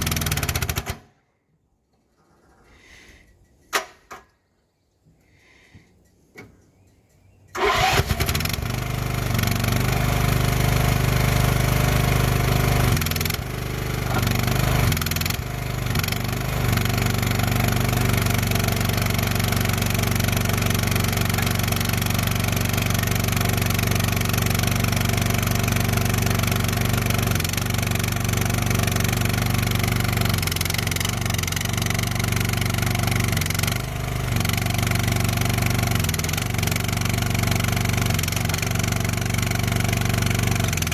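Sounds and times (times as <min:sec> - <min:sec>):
skid steer engine running: 0:00.0 - 0:01.1, 0:07.5 - 0:40.9.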